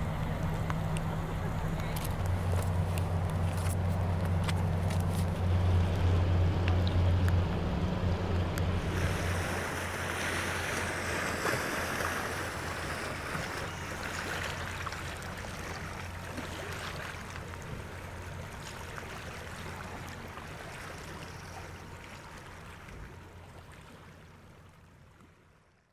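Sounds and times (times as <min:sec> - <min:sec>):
river waves lapping: 0:00.0 - 0:25.5
ship low hum: 0:00.0 - 0:25.8.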